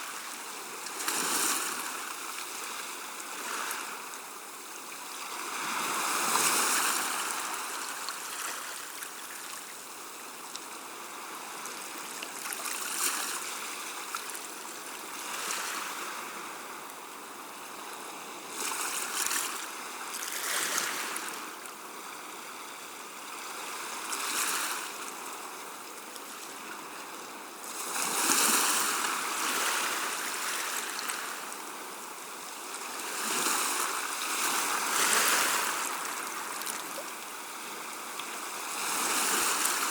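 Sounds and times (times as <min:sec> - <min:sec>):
gentle sea waves washing: 0:00.0 - 0:39.9.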